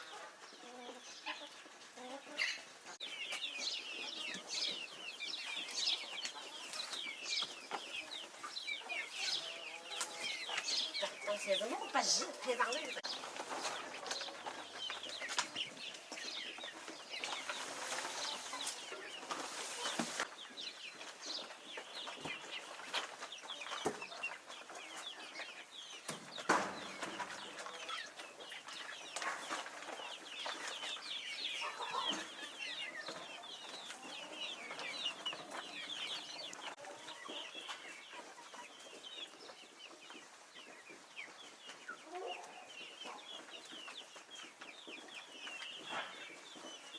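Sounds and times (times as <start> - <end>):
chicks cheeping: 0.0 - 46.9.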